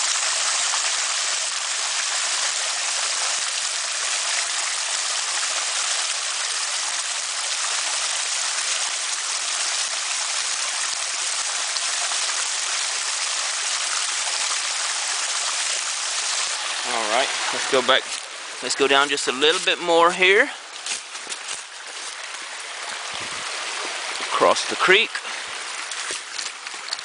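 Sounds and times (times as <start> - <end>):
creek rushing over rocks: 0.0 - 27.0.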